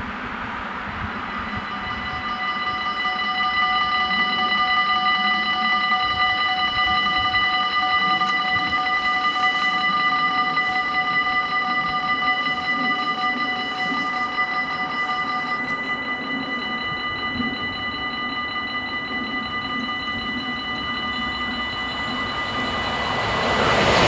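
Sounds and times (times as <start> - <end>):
level crossing warning bells: 1.0 - 24.0.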